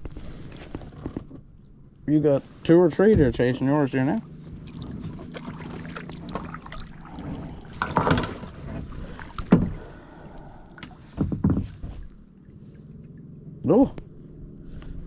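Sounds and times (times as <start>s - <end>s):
water movement: 0.0s - 15.0s.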